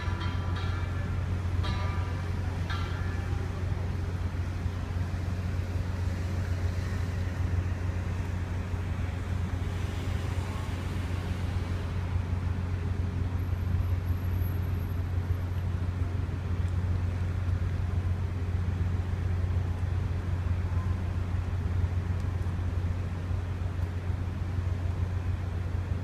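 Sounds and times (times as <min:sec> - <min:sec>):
constant wash of noise: 0:00.0 - 0:26.0
ship engine droning: 0:00.0 - 0:26.0.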